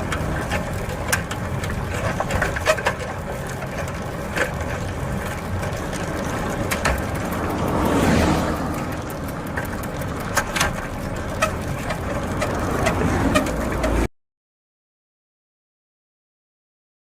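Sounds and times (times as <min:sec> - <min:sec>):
bicycle clicks and rattles: 0:00.0 - 0:14.1
bicycle tyres rumbling: 0:00.0 - 0:14.1
wind: 0:00.0 - 0:14.1.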